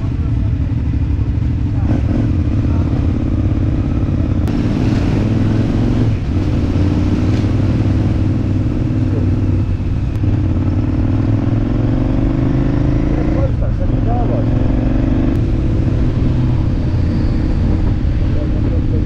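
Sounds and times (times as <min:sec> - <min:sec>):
motorcycle engine accelerating: 0:00.0 - 0:19.0
road noise: 0:00.0 - 0:19.0.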